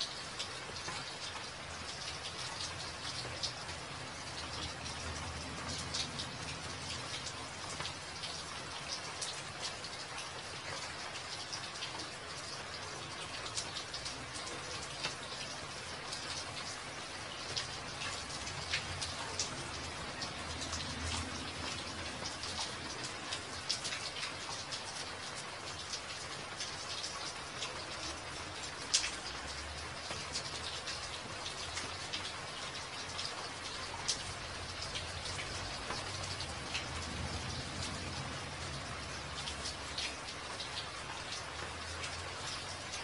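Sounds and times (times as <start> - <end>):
drops splashing in puddles: 0.0 - 43.0
steady rain hiss: 0.0 - 43.0.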